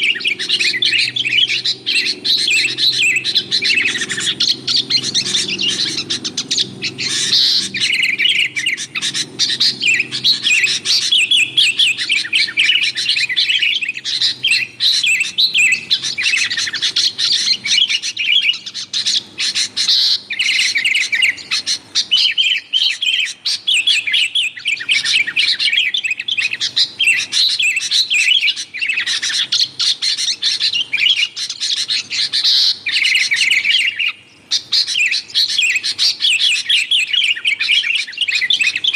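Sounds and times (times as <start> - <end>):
birds chattering and chirping: 0.0 - 38.9.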